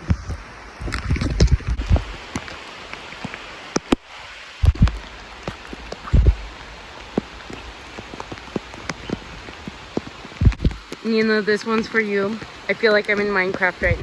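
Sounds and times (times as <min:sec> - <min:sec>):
raindrops tapping close by: 0:00.0 - 0:14.0
steady rain falling: 0:00.0 - 0:14.0.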